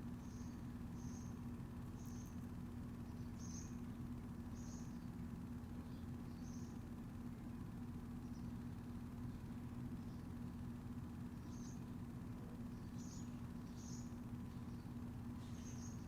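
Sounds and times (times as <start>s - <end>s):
small bird chirping: 0.0s - 7.2s, 8.0s - 16.0s
steady low hum: 0.0s - 16.0s.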